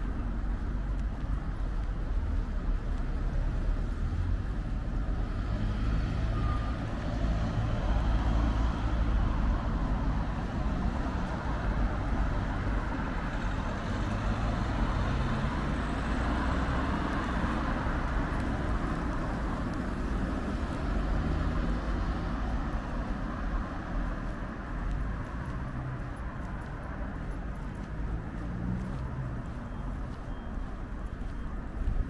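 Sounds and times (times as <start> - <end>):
road noise: 0.0 - 32.0
vehicle engines rumbling: 0.0 - 32.0.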